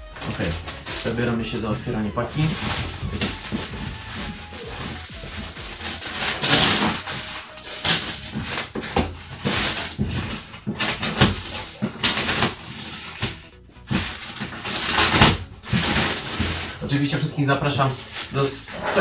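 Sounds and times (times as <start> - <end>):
packing tape and cardboard ripping: 0.0 - 19.0.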